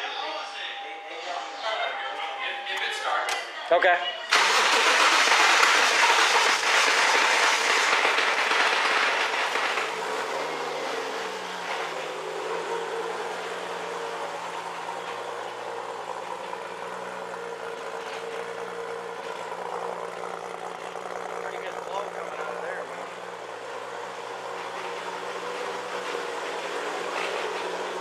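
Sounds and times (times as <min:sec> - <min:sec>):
car engine idling: 0:01.6 - 0:28.0.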